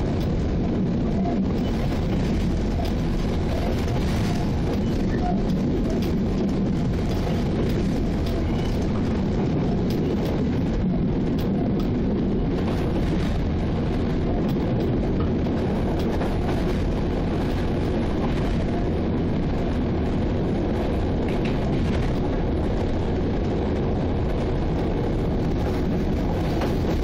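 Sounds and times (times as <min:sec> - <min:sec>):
locomotive engine drone: 0:00.0 - 0:27.0
wheels on rails: 0:00.0 - 0:27.0.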